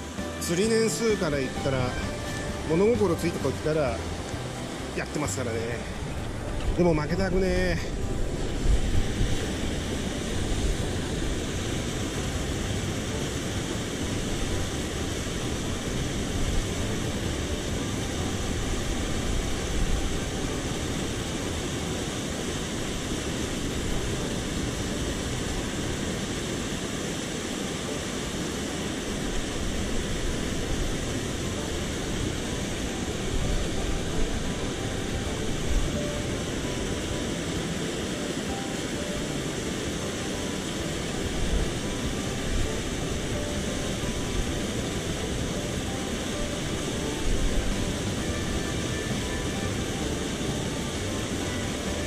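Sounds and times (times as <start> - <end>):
mountain stream flowing: 0.0 - 52.0.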